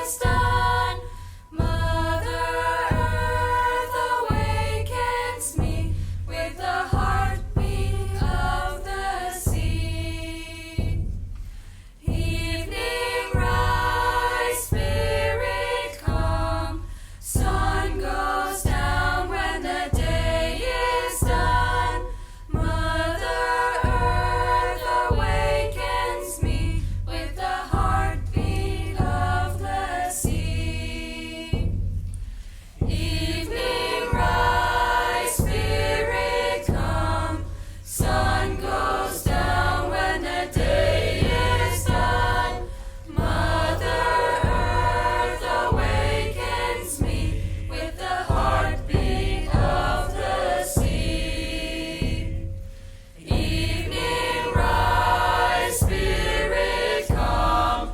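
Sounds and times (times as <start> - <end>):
choir singing: 0.0 - 11.1, 12.0 - 31.8, 32.8 - 57.9.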